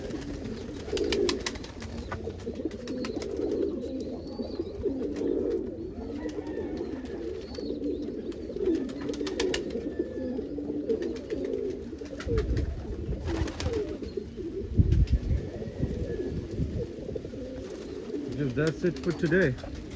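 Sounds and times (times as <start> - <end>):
pigeons cooing: 0.0 - 19.9.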